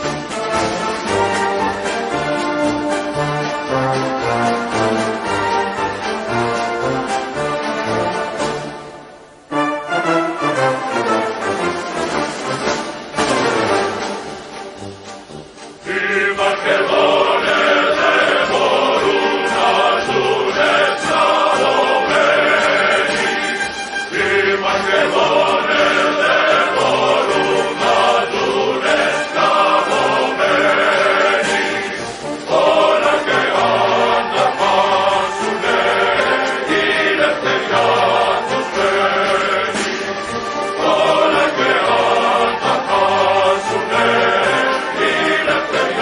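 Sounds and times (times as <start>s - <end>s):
choir singing: 0.0s - 14.6s, 15.8s - 46.0s.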